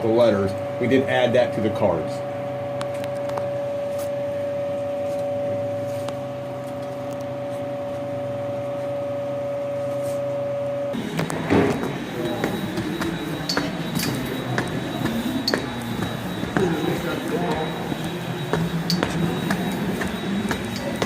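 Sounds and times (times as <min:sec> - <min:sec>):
machine hum with high tone: 0:00.0 - 0:21.0.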